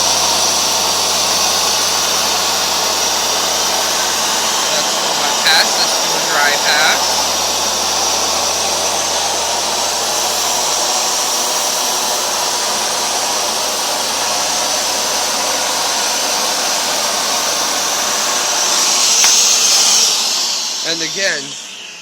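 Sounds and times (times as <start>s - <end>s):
carpet washer running: 0.0s - 22.0s.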